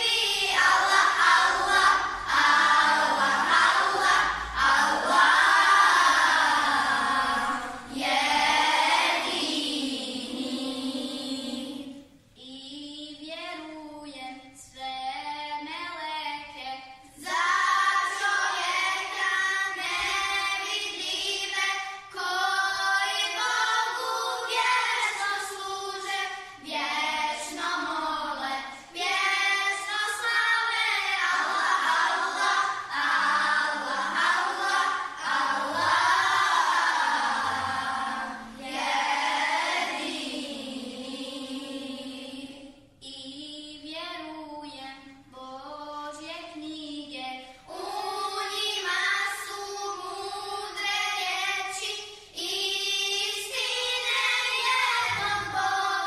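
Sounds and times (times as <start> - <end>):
children's choir singing: 0.0 - 12.4, 16.4 - 43.4, 47.2 - 56.0.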